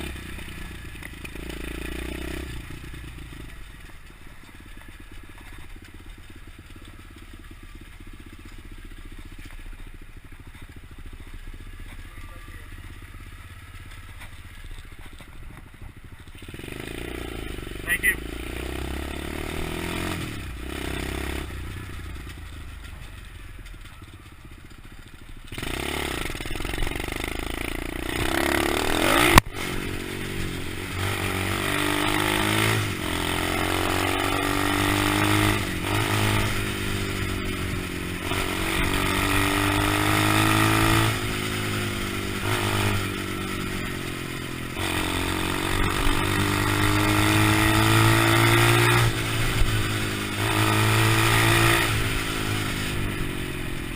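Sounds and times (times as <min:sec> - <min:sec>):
motorbike engine revving: 0:00.0 - 0:06.7, 0:07.4 - 0:53.9.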